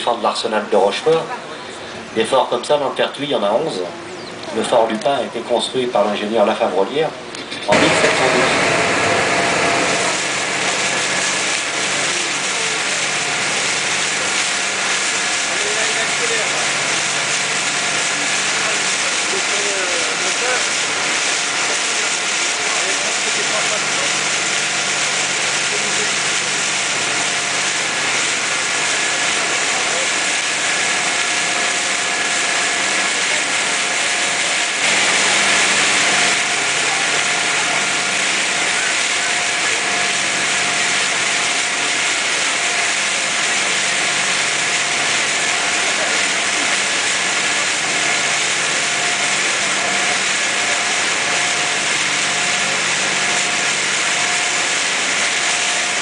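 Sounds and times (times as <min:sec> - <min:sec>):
boat engine humming: 0:00.0 - 0:56.0
water rushing: 0:00.0 - 0:56.0.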